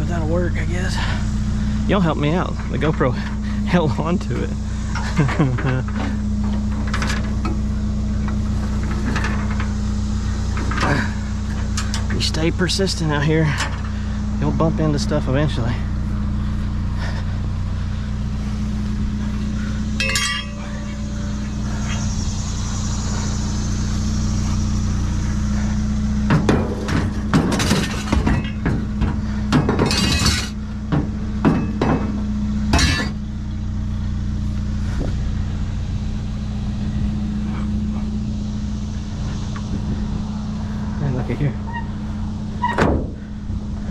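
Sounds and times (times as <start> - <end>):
vehicle engine idling: 0.0 - 43.9
junk clinking and clattering: 1.2 - 23.8, 24.4 - 41.0, 41.6 - 43.9.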